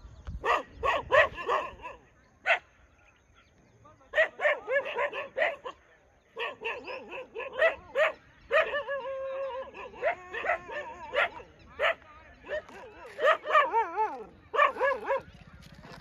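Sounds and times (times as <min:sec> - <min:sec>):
dogs barking and yelping: 0:00.4 - 0:02.6, 0:04.2 - 0:16.0.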